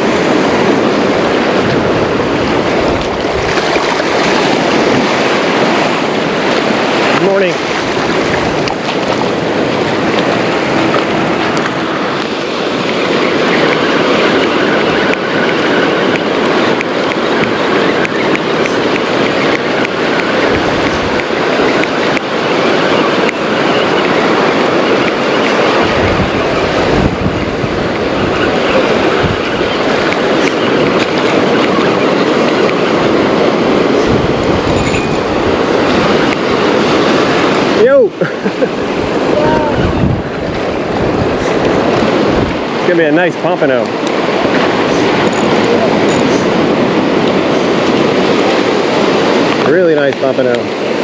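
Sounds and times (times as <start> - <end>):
ocean surf washing in: 0.0 - 51.0
wind gusts on microphone: 0.0 - 51.0.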